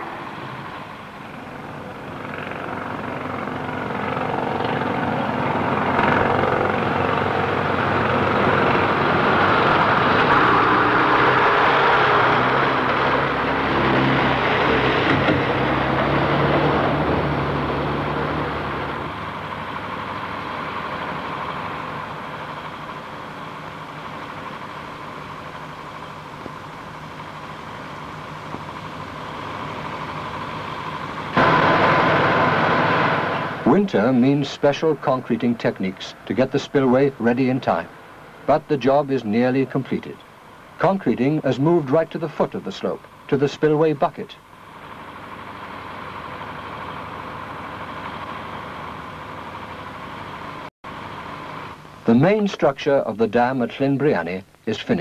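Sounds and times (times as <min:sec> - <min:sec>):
heavy machinery engine rumble: 0:00.0 - 0:55.0.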